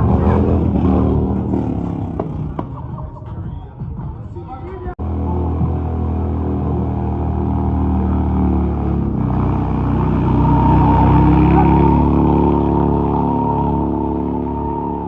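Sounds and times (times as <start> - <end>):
heavy motorcycle engine running: 0.0 - 3.3, 5.0 - 15.0.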